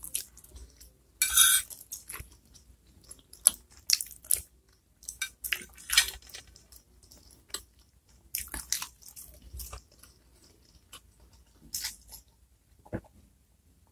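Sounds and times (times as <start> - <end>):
chewing and wet mouth noises: 0.0 - 1.0, 1.6 - 12.4.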